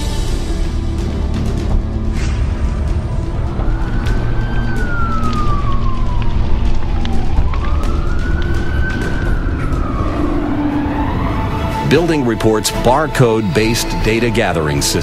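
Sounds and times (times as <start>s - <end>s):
siren wailing: 2.4s - 15.0s.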